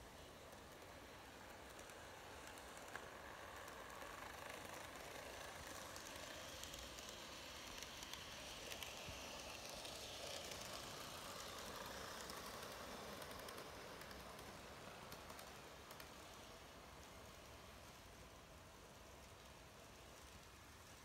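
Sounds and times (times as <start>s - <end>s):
model train motor whirr: 0.0s - 21.0s.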